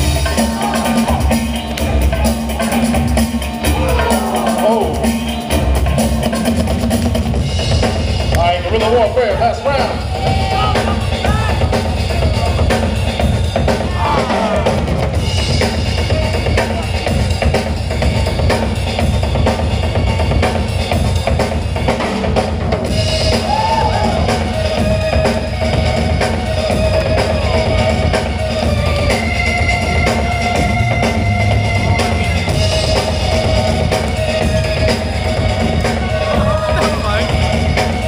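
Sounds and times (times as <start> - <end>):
drum-heavy break-beat music: 0.0 - 38.0.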